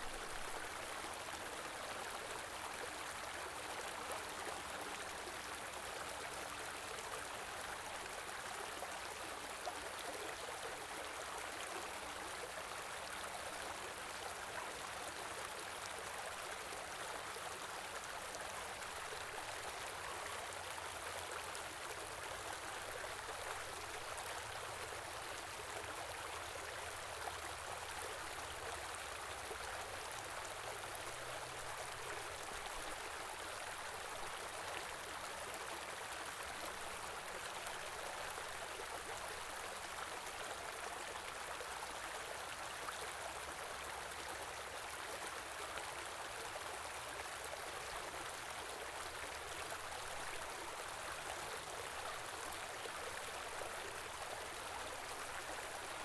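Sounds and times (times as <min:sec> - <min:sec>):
small river flowing: 0:00.0 - 0:56.0.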